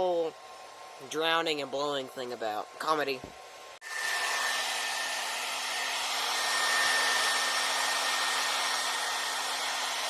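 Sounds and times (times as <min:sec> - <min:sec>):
hair dryer running: 0:00.0 - 0:02.0, 0:02.6 - 0:10.0.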